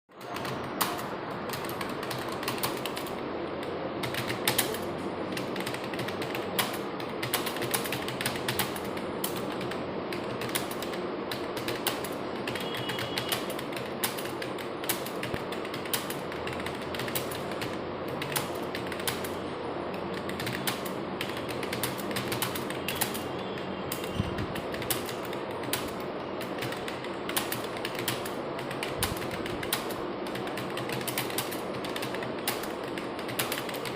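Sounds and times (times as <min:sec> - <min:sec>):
fast keyboard typing: 0:00.1 - 0:33.9.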